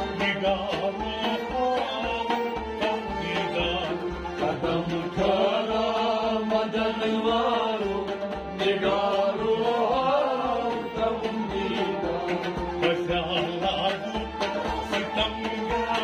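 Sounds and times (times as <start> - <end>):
instrumental drone: 0.0 - 16.0
person singing devotional song: 0.0 - 16.0.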